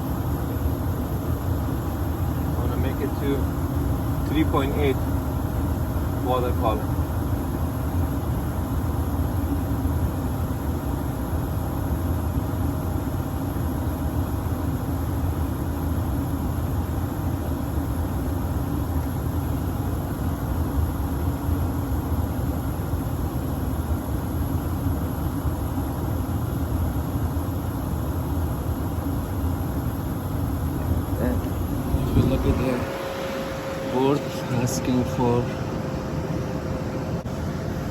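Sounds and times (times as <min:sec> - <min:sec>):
heating unit low rumble: 0:00.0 - 0:37.9.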